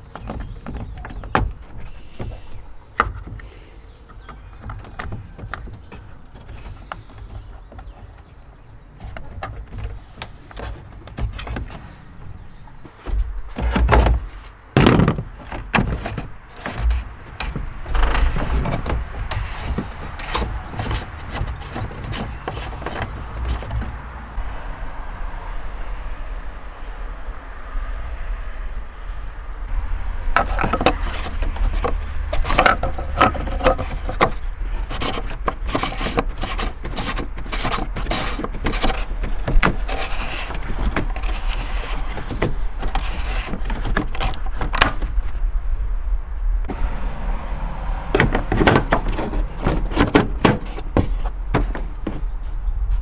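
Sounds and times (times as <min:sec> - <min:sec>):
tools and parts being handled: 0:00.0 - 0:24.3, 0:30.4 - 0:45.3, 0:48.1 - 0:52.6.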